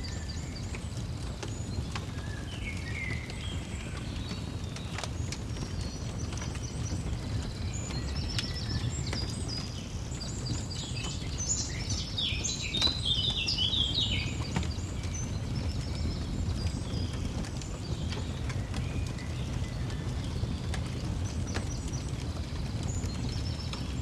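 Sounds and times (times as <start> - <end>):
fire crackling: 0.0 - 24.0
songbirds chirping: 0.0 - 24.0.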